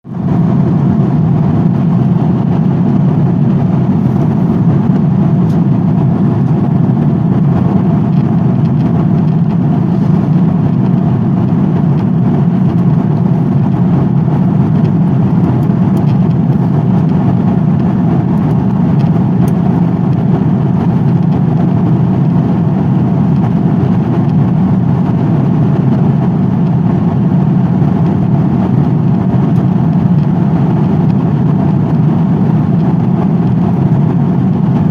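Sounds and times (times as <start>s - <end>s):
aircraft cabin drone in flight: 0.1s - 34.9s.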